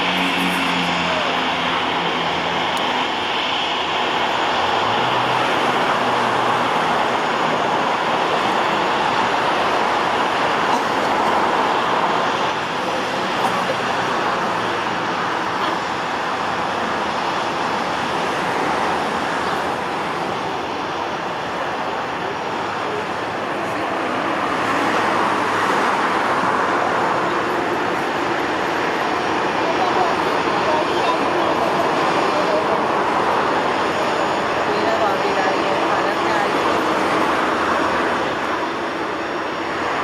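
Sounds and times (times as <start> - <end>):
jet engine rush: 0.0 - 40.0.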